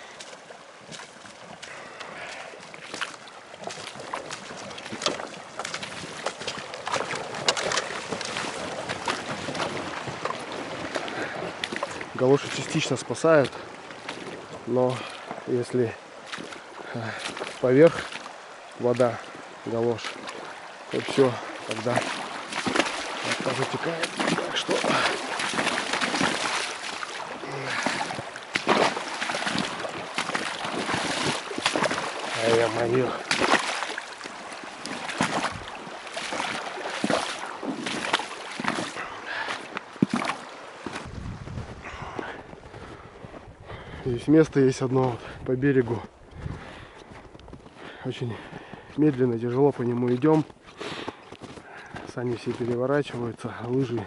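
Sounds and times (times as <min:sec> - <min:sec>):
flowing stream: 0:00.0 - 0:54.0
footsteps splashing through water: 0:00.0 - 0:54.0
sled dragged through water: 0:00.0 - 0:54.0.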